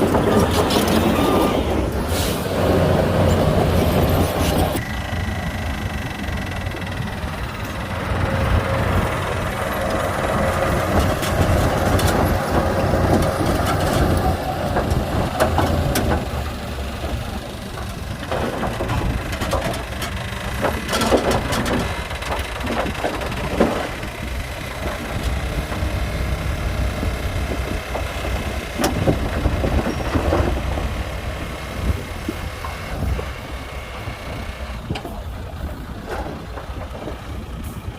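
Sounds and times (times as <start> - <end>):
heavy diesel machinery rumble: 0.0 - 37.9.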